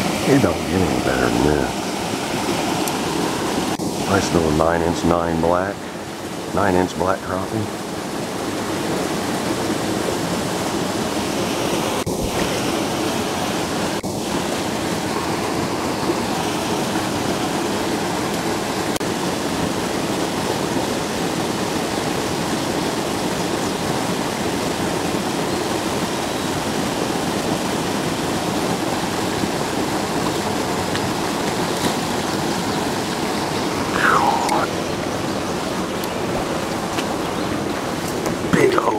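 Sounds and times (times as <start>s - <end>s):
water rushing over spillway: 0.0s - 38.9s.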